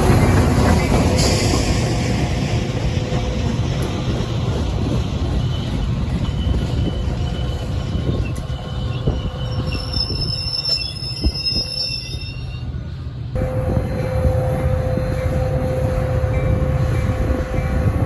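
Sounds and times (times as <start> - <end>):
steel wheels squealing on rails: 0.0 - 18.0
train rumbling past: 0.0 - 18.0.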